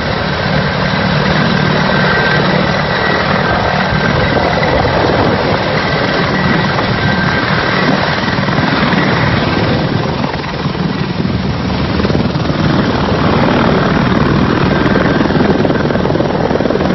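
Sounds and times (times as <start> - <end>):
helicopter rotor beating: 0.0 - 16.9
turboshaft engines roaring: 0.0 - 16.9.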